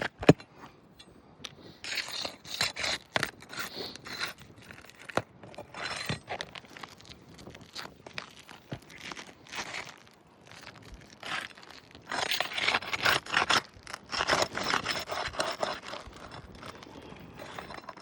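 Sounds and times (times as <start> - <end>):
roof shingles scraping and tearing: 2.0 - 18.0.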